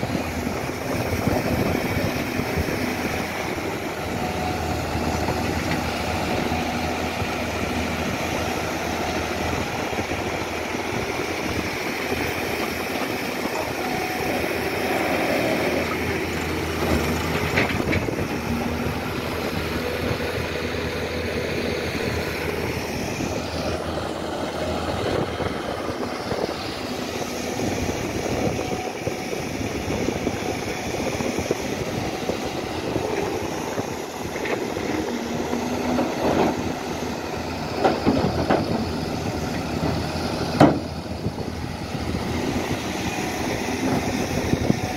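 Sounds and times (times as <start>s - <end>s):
diesel engines running: 0.0s - 44.9s.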